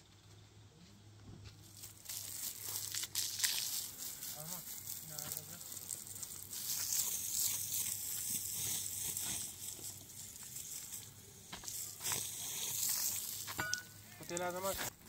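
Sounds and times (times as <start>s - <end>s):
hose spraying water on wall: 1.6s - 15.0s.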